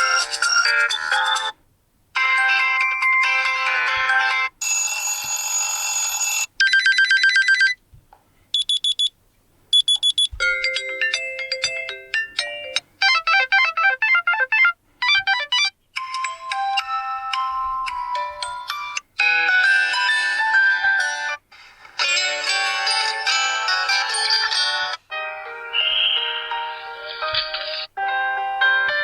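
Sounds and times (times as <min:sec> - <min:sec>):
phone ringtone melodies: 0:00.0 - 0:01.6, 0:02.2 - 0:07.8, 0:10.0 - 0:21.4, 0:22.1 - 0:29.0.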